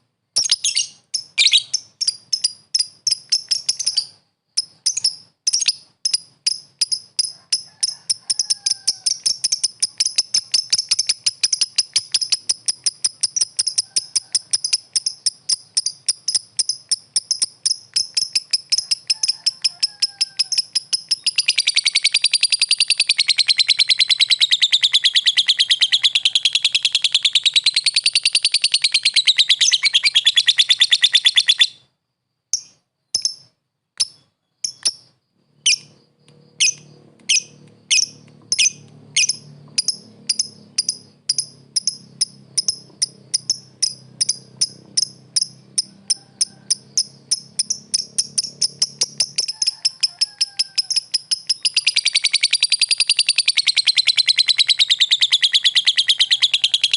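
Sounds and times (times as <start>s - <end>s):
lovebird chirping trill: 0.4s - 31.9s, 32.5s - 56.9s.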